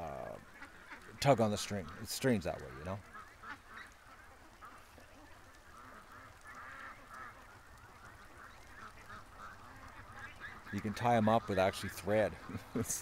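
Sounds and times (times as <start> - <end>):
geese and ducks honking: 0.0 - 13.0.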